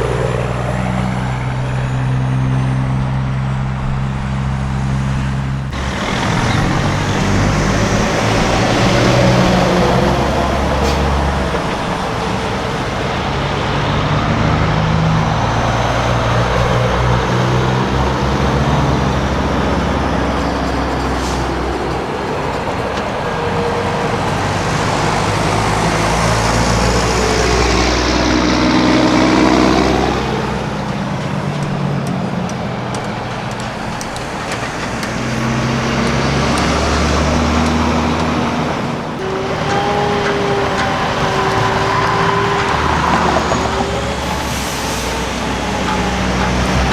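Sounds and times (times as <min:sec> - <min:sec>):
diesel truck engines droning: 0:00.0 - 0:46.9.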